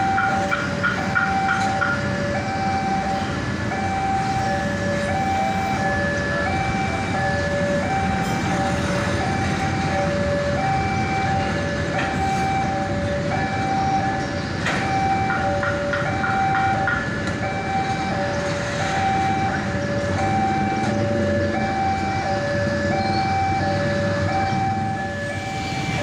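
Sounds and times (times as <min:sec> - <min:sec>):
train rumbling past: 0:00.0 - 0:26.0
two-tone crossing alarm: 0:00.0 - 0:26.0.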